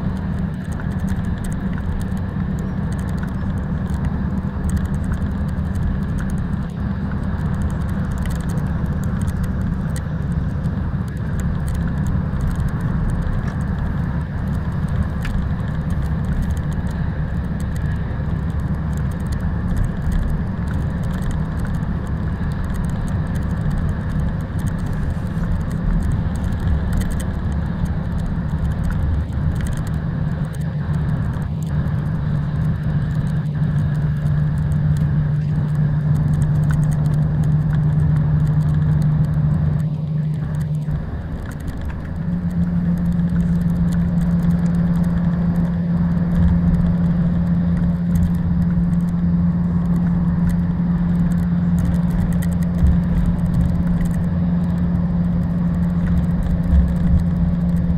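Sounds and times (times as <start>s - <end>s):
low engine drone: 0.0s - 57.9s
road and tyre noise: 0.0s - 57.9s.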